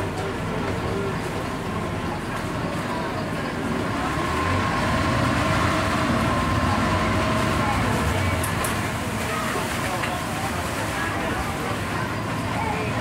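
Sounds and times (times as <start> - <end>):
boat engine running with whine: 0.0 - 13.0.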